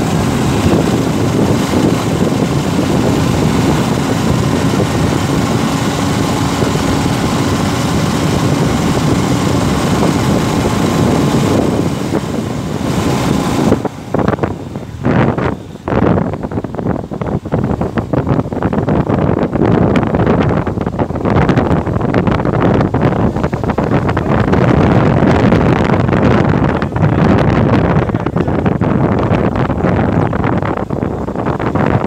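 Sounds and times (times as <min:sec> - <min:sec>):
motorbike engine and road noise: 0:00.0 - 0:32.0
wind rush on microphone: 0:00.0 - 0:32.0.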